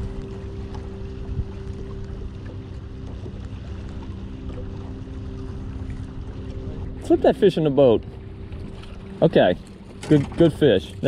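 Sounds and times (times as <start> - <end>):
boat motor humming: 0.0 - 11.0
wind rumble on microphone: 0.0 - 11.0.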